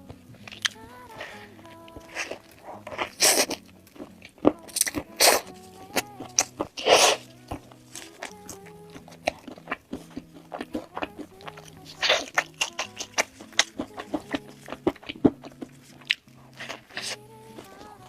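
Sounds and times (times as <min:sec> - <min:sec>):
crunching and chewing fried chicken: 0:00.0 - 0:18.0
soft background music: 0:00.0 - 0:18.0.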